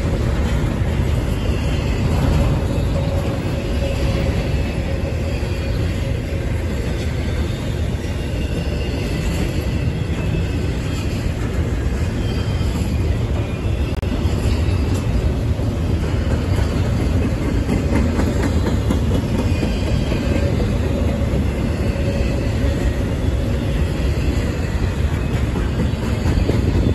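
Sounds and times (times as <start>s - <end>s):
train clacks: 0.0s - 26.9s
train wheels rumbling on rail: 0.0s - 26.9s.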